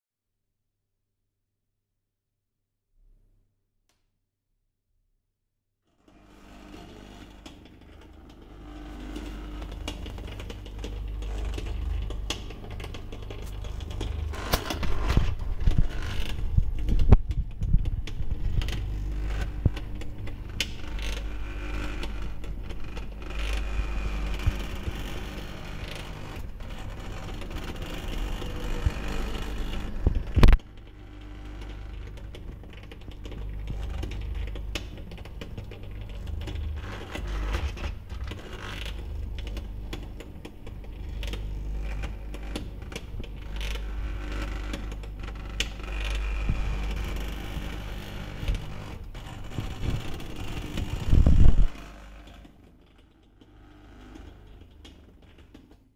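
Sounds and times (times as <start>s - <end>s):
drive mechanism creaking and clicking: 6.0s - 55.8s.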